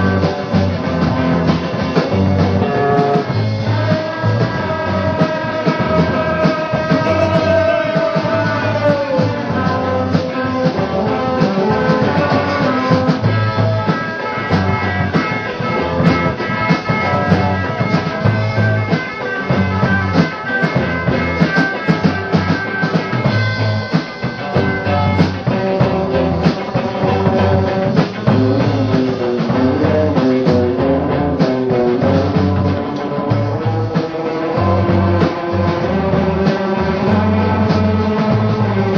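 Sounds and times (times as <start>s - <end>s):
bass guitar line: 0.0s - 38.9s
drum kit beats: 0.0s - 38.9s
guitars with ringing high notes: 0.0s - 38.9s.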